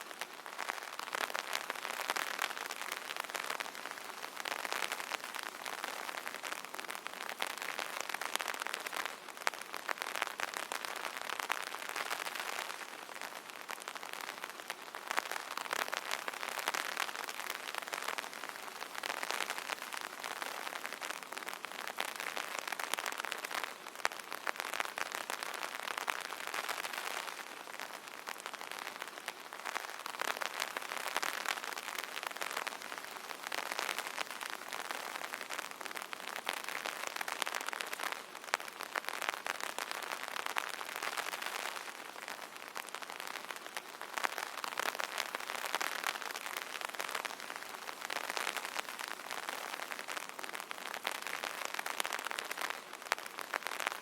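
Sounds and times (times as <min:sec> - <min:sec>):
rain falling on an umbrella: 0:00.0 - 0:54.0.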